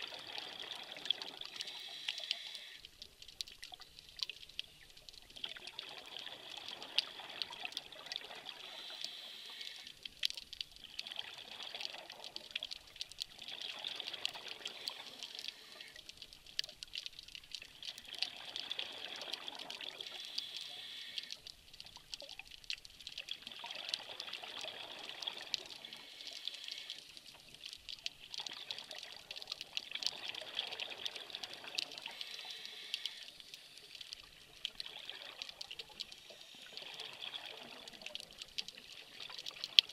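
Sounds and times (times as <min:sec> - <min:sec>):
fine crackling underwater: 0:00.0 - 0:39.9.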